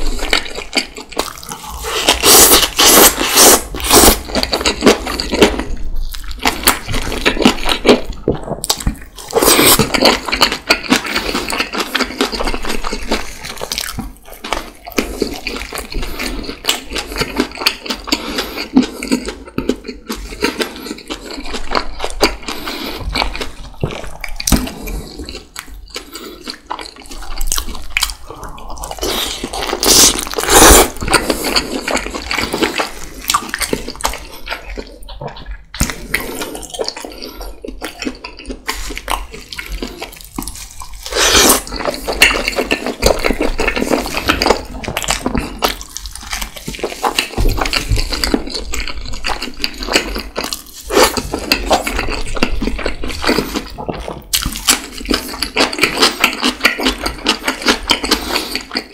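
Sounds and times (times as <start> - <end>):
wet chewing and slurping: 0.0 - 58.9.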